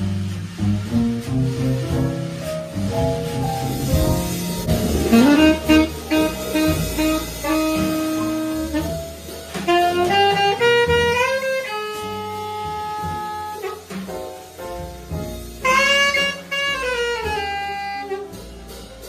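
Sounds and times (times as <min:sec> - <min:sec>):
alto saxophone jazz ballad: 0:00.0 - 0:19.0
rhythm section: 0:00.0 - 0:19.0.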